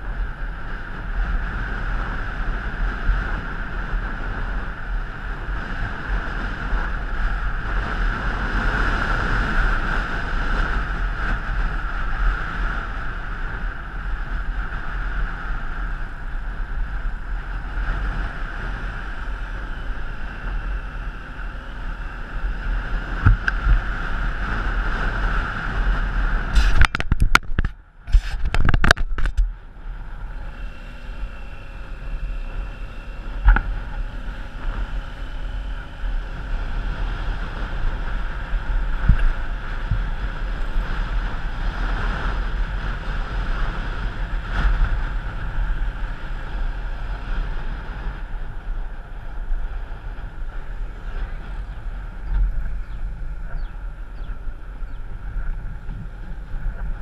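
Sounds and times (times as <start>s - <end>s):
vehicle road noise: 0.0s - 57.0s
wind on microphone: 0.0s - 57.0s.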